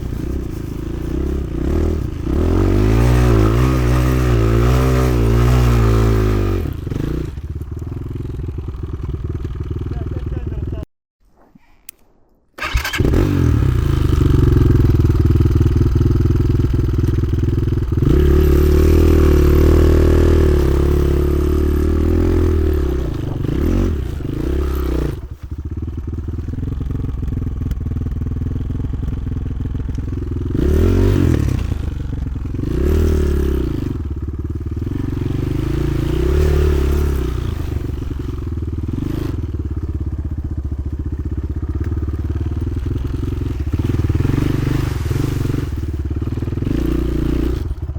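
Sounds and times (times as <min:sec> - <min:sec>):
motorcycle engine revving: 0:00.0 - 0:10.8, 0:12.6 - 0:47.9.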